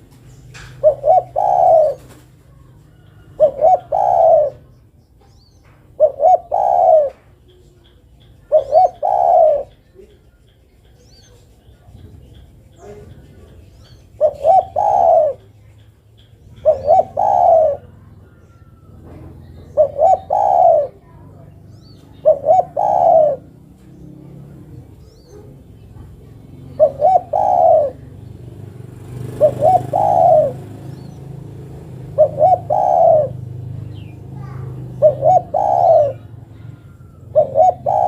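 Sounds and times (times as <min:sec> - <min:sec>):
dove cooing: 0:00.0 - 0:05.0, 0:05.8 - 0:10.2, 0:11.4 - 0:38.0.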